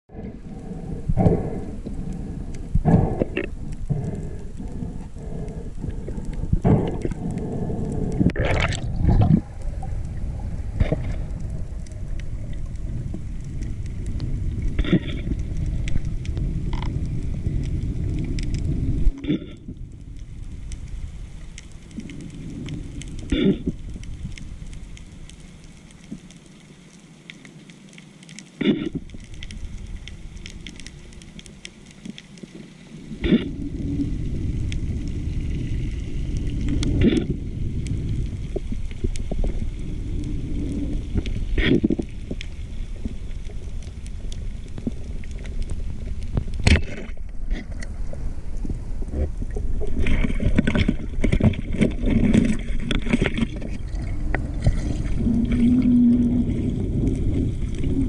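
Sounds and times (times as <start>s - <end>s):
muffled underwater water rumble: 0.0s - 58.0s.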